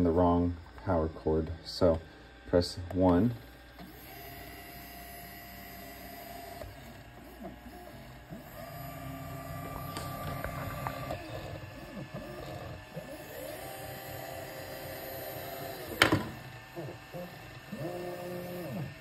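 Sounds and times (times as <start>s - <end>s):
stepper motors whining: 1.4s - 19.0s.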